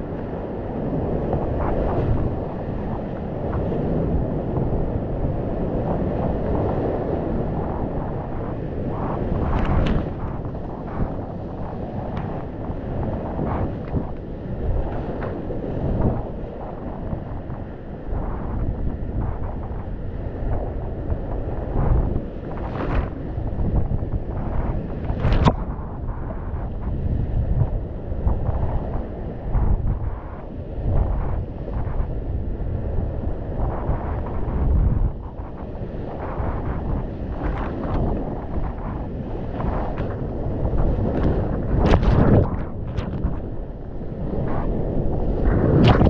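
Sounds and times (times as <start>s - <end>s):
wind noise on microphone: 0.0s - 46.0s.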